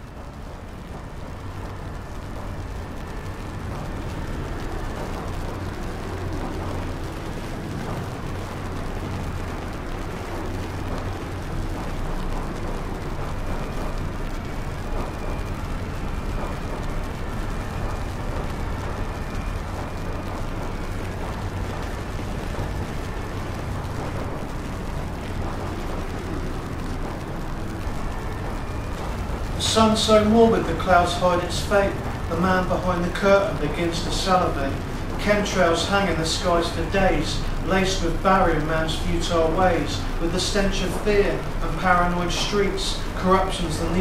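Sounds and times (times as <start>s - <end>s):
dense low rumbling: 0.0s - 44.0s.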